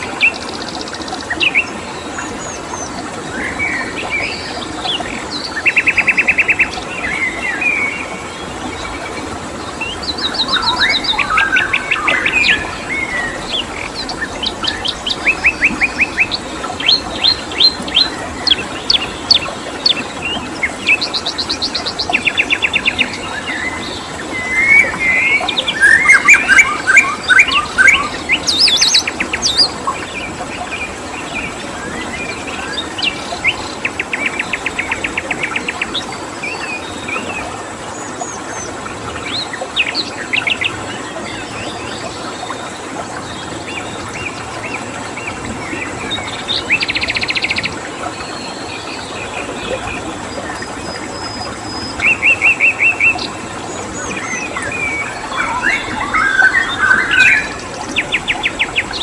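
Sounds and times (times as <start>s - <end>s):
songbirds singing and calling: 0.0s - 59.0s.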